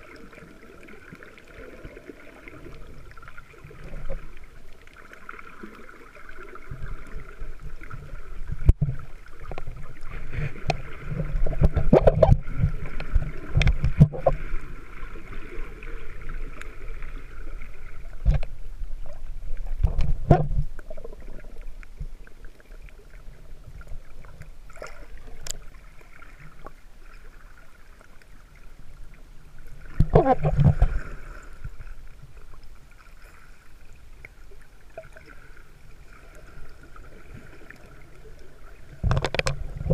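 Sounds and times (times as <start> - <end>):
underwater rumbling and sloshing: 0.0 - 39.9.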